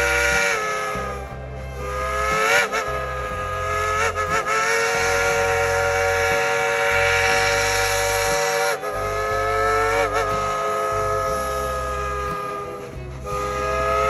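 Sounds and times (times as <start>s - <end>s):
steam locomotive whistle: 0.0s - 14.0s.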